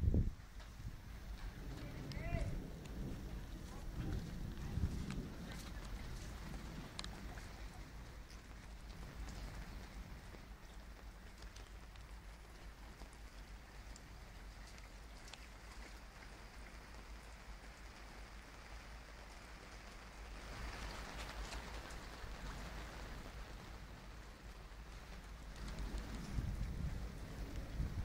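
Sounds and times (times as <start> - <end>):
low steady rumble: 0.0 - 28.0
rain hissing and pattering: 0.0 - 28.0
faint drips: 2.8 - 27.8.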